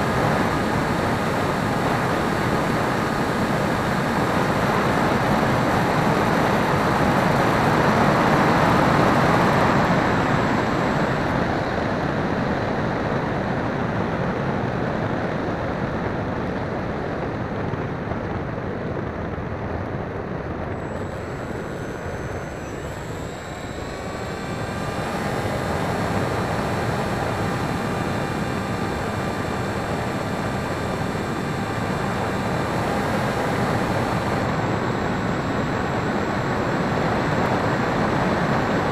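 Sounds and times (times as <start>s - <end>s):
electric motor and propeller whine: 0.0s - 16.9s, 20.4s - 38.9s.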